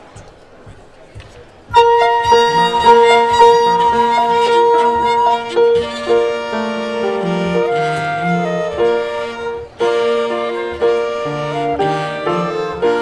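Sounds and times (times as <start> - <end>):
cello: 1.7 - 13.0
flute: 1.7 - 13.0
piano: 1.7 - 13.0
violin: 1.7 - 13.0.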